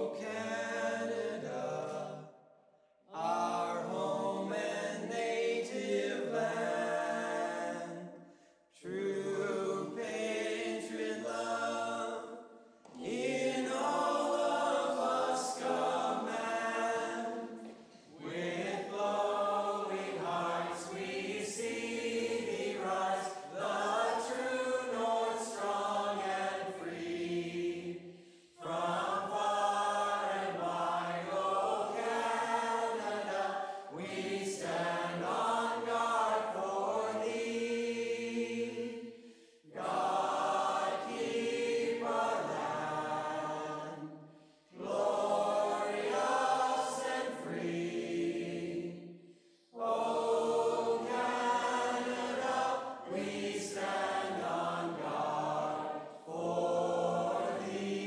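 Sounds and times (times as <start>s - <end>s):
mixed choir singing anthem: 0.0s - 2.4s, 3.1s - 58.0s.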